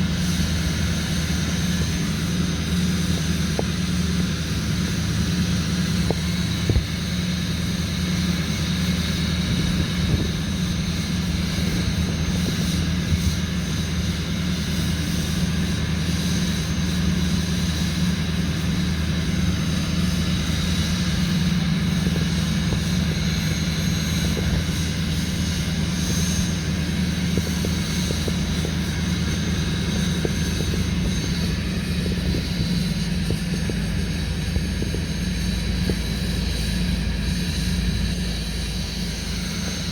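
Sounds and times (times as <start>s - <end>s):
diesel engine idling: 0.0s - 39.9s
faint high whine: 0.0s - 39.9s.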